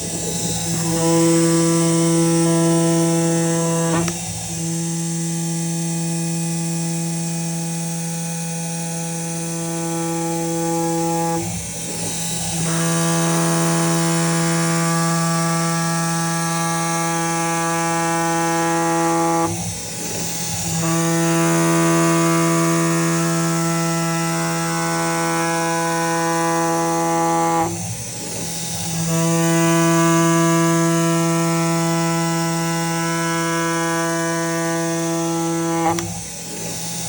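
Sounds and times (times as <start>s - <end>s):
cutting machine hum with hiss: 0.0s - 37.0s.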